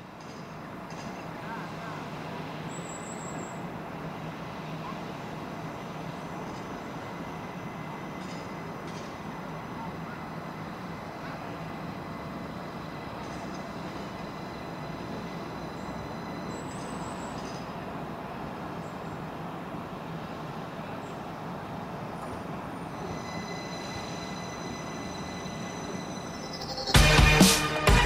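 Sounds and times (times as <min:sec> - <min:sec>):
train rumbling: 0:00.0 - 0:28.0
faint high whining tones: 0:00.1 - 0:27.0.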